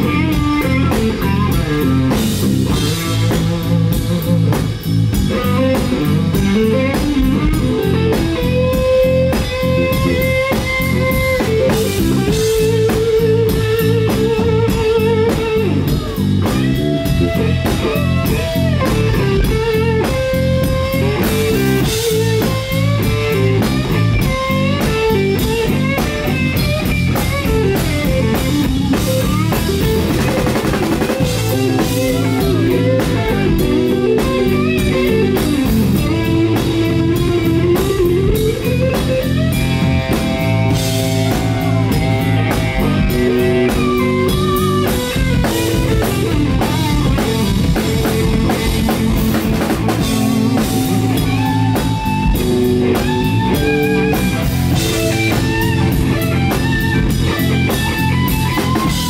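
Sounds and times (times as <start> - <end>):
drum kit: 0.0 - 59.0
electric guitar lead bending notes: 0.0 - 59.0.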